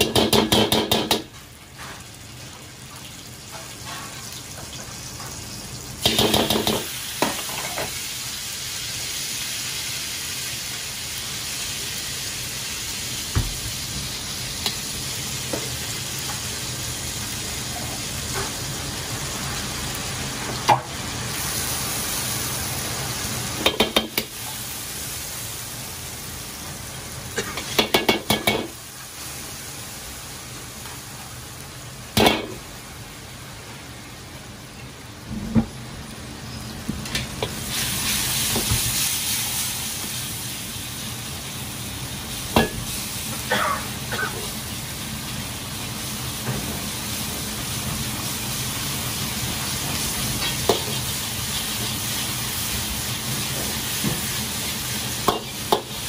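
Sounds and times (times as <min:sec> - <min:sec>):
paste sizzling in oil: 0:00.0 - 0:33.0, 0:37.4 - 0:56.0.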